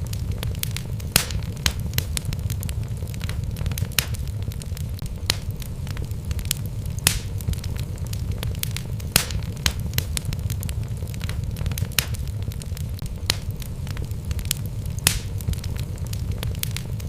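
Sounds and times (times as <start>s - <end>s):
crackles and pops of burning logs: 0.0s - 17.0s
low rumble of flames: 0.0s - 17.0s.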